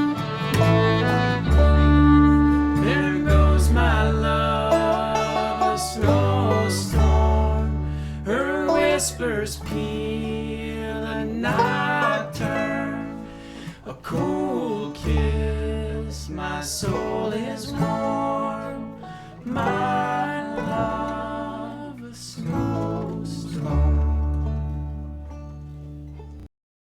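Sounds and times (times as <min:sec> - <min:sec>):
deep bass notes: 0:00.0 - 0:26.3
bluegrass band playing: 0:00.0 - 0:26.5.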